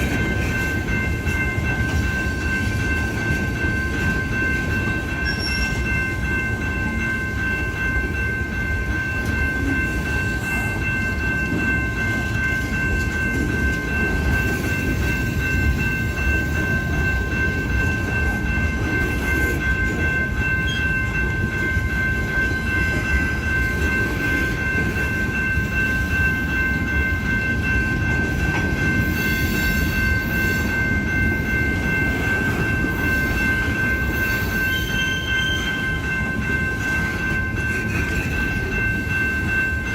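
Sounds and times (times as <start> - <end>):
freight train rumble: 0.0 - 39.9.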